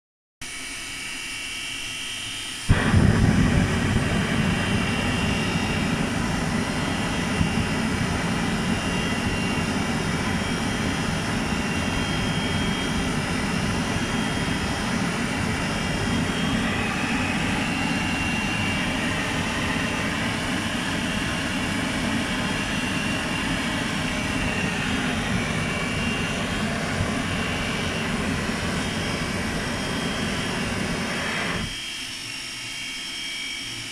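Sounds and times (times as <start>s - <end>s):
gas hiss with high whine: 2.2s - 32.0s
gas burner igniting whoomp: 2.7s - 31.8s
gas burner roaring: 2.7s - 31.8s.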